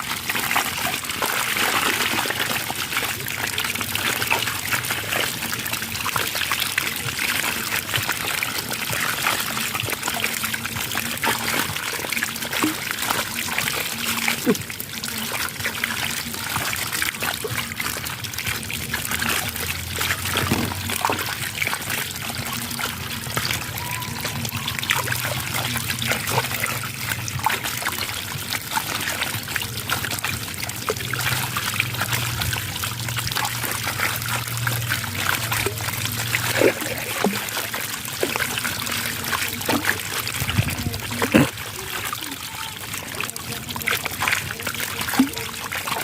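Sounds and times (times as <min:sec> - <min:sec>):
running water splashing: 0:00.0 - 0:46.0.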